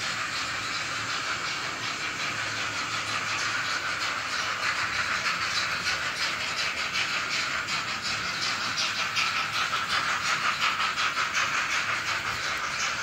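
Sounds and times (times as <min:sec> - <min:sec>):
model steam locomotive chuffs: 0:00.0 - 0:13.0.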